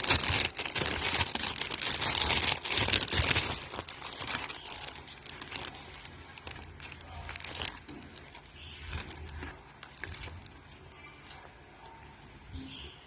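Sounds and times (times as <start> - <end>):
packaging crinkling and rustling: 0.0 - 12.3.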